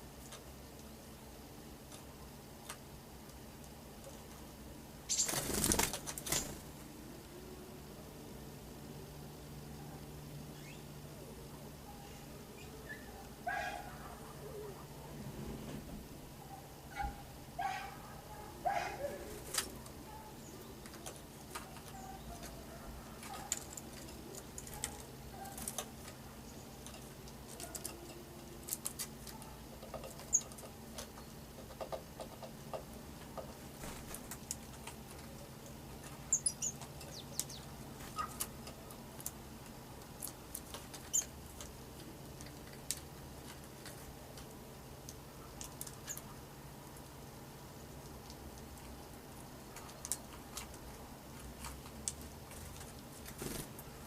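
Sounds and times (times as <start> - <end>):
birds pecking: 0.0 - 7.4, 9.5 - 54.0.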